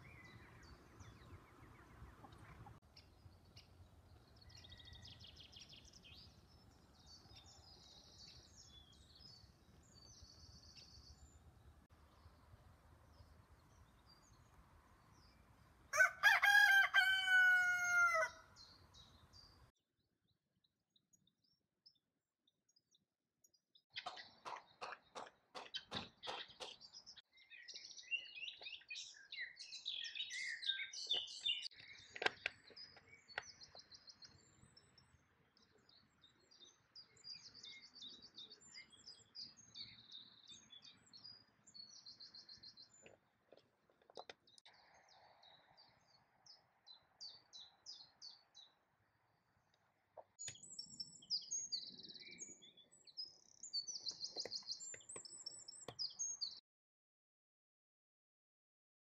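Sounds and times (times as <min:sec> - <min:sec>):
songbirds chirping and trilling: 0:00.0 - 0:19.7, 0:20.9 - 0:56.6.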